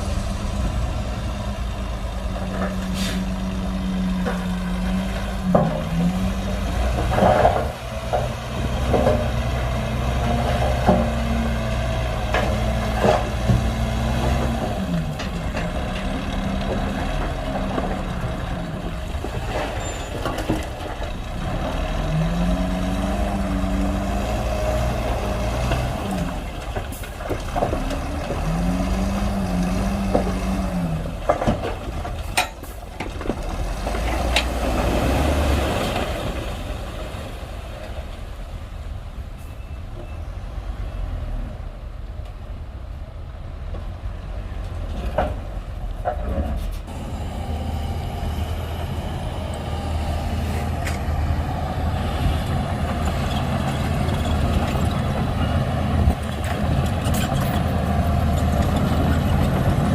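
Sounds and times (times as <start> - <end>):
bulldozer diesel engine running: 0.0 - 40.9, 43.5 - 59.9.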